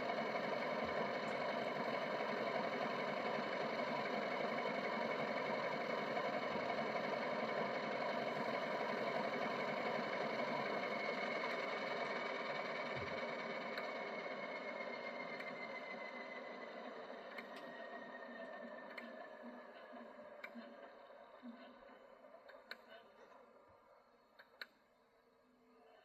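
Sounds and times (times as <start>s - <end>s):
diesel engine sound from small speaker: 0.0s - 24.6s.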